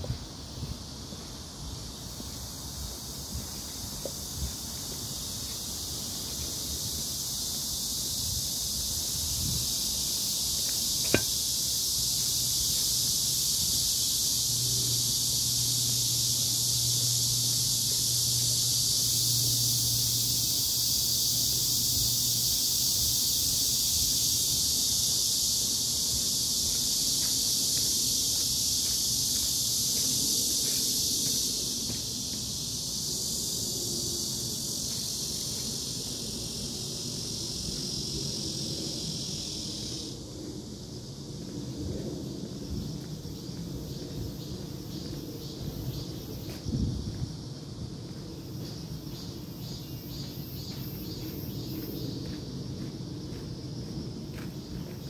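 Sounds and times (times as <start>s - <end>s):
cicadas buzzing: 0.0s - 55.0s.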